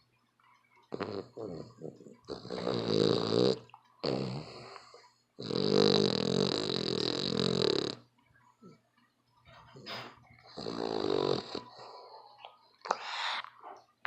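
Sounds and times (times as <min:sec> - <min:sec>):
dog snoring: 0:00.9 - 0:08.8, 0:09.7 - 0:13.8.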